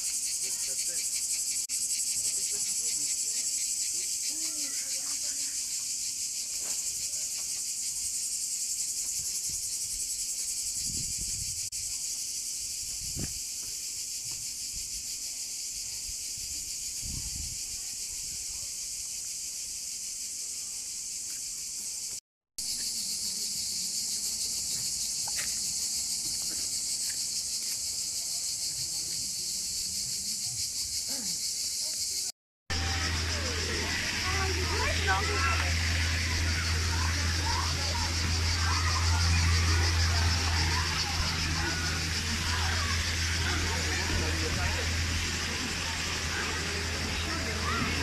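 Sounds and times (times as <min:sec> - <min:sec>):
cicadas buzzing: 0:00.0 - 0:48.0.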